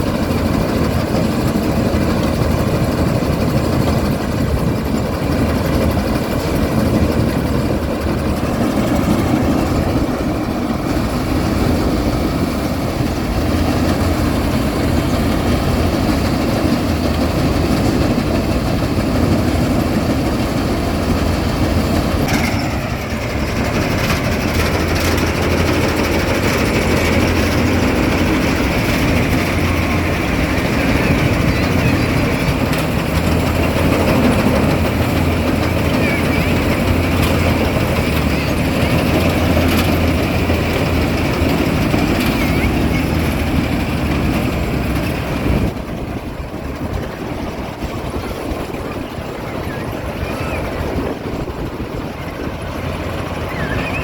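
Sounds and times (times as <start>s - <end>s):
harvester engine running: 0.0s - 54.0s.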